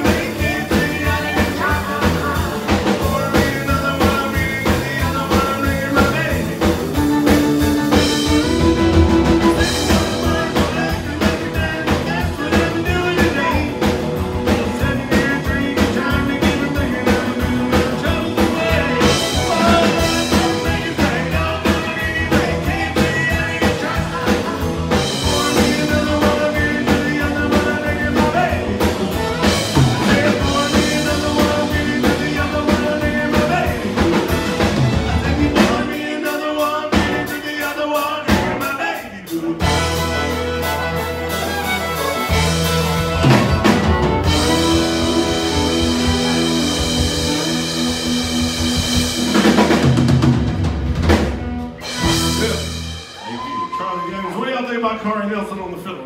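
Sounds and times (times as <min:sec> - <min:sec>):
live country band playing: 0:00.0 - 0:56.0.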